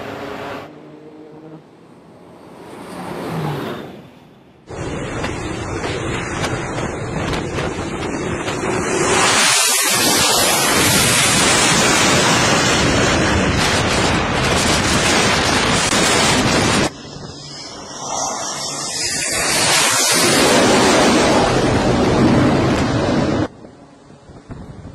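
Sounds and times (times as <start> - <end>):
loud jet engine: 0.0 - 1.0, 1.8 - 24.9.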